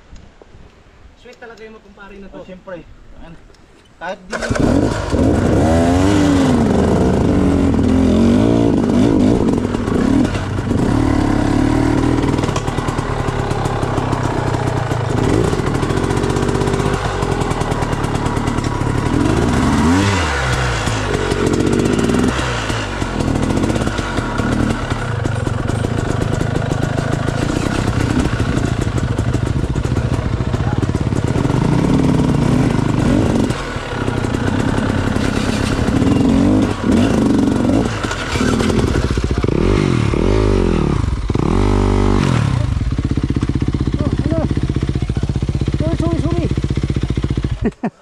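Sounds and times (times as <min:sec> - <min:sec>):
dirt bike engine revving: 0:04.3 - 0:47.8.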